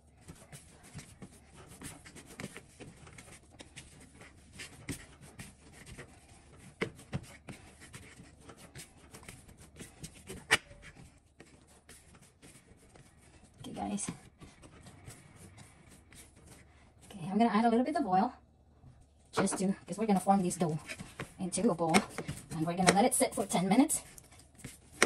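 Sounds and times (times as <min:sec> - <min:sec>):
hands kneading dough on metal tray: 0:00.0 - 0:18.2, 0:18.9 - 0:25.0.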